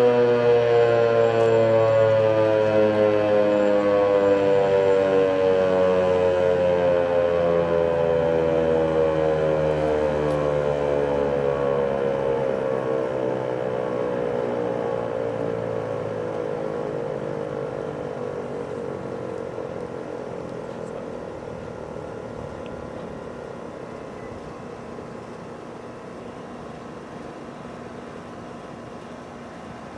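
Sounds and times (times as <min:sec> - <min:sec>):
warning siren winding down: 0:00.0 - 0:26.2.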